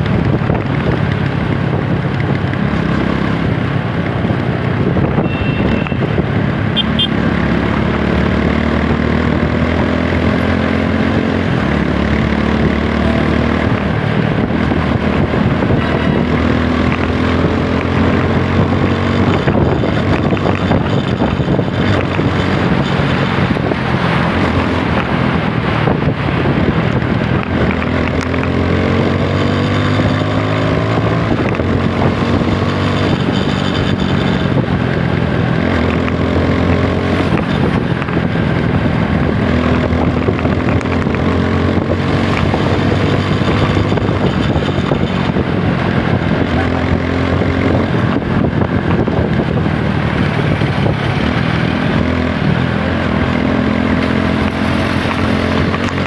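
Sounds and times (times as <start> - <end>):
motorcycle engine accelerating: 0.0 - 56.0
wind noise on microphone: 0.0 - 56.0.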